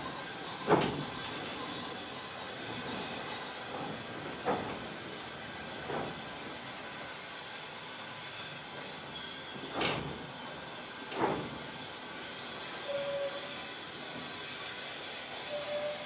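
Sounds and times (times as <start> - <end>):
train rushing noise: 0.0 - 16.0.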